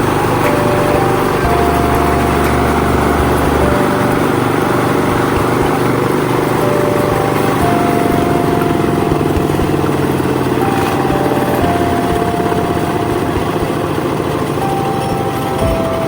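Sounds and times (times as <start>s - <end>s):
small engine running steadily: 0.0s - 16.0s.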